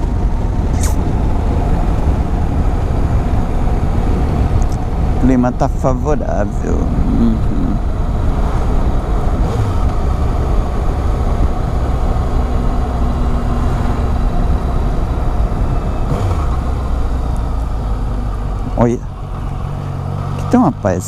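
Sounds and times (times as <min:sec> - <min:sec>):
wind rushing over microphone: 0:00.0 - 0:18.8
motorcycle engine: 0:00.0 - 0:21.0.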